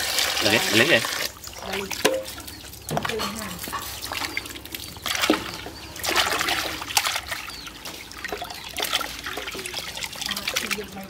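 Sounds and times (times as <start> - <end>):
water splashing in plastic basin: 0.0 - 11.0.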